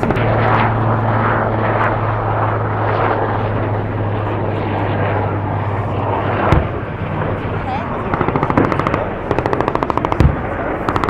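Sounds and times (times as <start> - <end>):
aircraft engine humming: 0.0 - 11.0.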